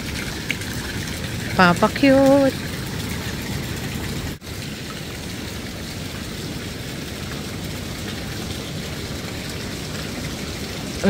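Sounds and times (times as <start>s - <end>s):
pool water sloshing: 0.0s - 11.0s.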